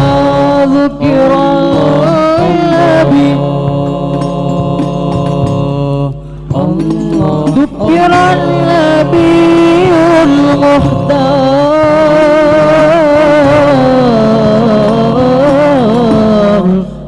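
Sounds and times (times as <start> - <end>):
male a cappella group singing: 0.0 - 17.0.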